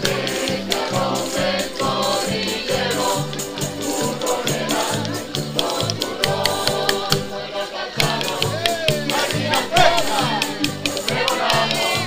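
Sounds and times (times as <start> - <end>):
bass line: 0.0 - 11.8
strummed guitars and lutes: 0.0 - 12.0
voices singing together: 0.0 - 12.0.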